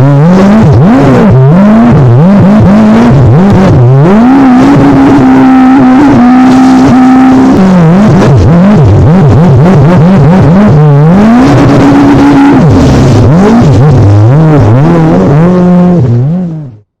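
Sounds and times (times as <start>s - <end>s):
jet ski engine revving: 0.0s - 16.8s.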